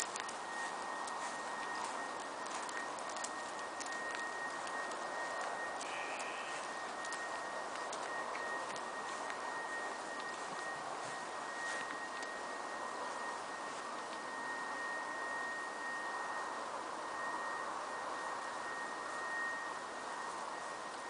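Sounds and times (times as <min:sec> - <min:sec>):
high-pitched tone: 0:00.0 - 0:21.0.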